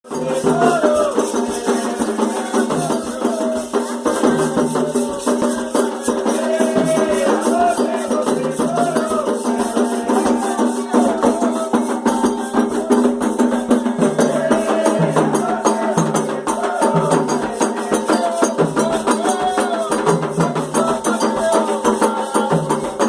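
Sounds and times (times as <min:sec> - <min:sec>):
person singing a melody: 0:00.0 - 0:23.0
rattles and hand percussion shaking: 0:00.0 - 0:23.0.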